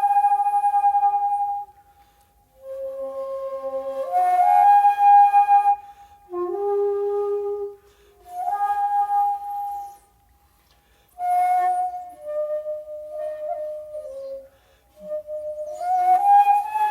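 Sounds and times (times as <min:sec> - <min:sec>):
shakuhachi playing long notes: 0:00.0 - 0:10.3, 0:11.2 - 0:16.9.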